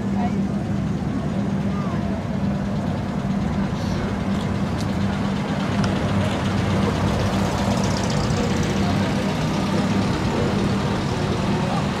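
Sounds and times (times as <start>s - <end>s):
car engines driving past slowly: 0.0s - 12.0s.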